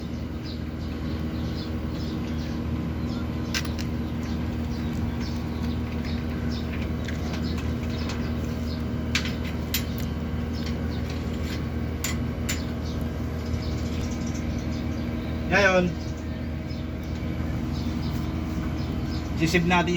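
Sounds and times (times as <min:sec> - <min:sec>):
air conditioner humming: 0:00.0 - 0:19.9.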